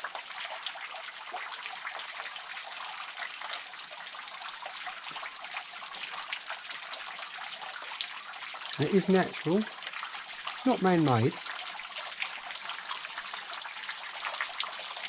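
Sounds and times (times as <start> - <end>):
water dripping: 0.0 - 15.0
water trickling: 0.0 - 15.0.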